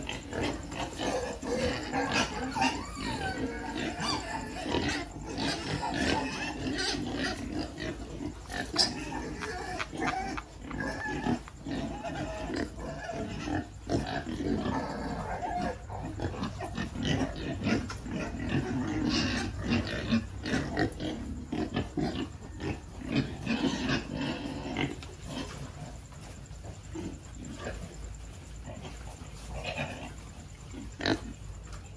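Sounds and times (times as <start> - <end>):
pigs grunting: 0.0 - 31.9
pigs snuffling and chomping: 0.0 - 31.9.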